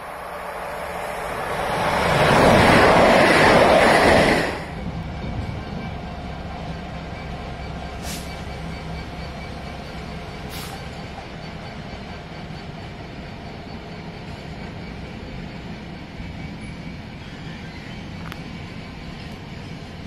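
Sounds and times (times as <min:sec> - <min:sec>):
diesel freight train rumbling past: 0:00.0 - 0:20.0.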